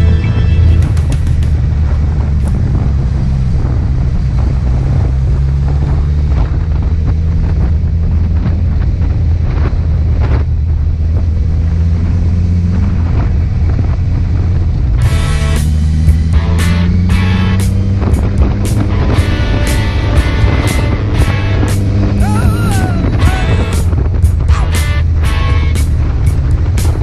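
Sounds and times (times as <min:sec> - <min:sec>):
motorcycle engine and road rumble: 0:00.0 - 0:27.0
wind buffeting microphone: 0:00.0 - 0:27.0.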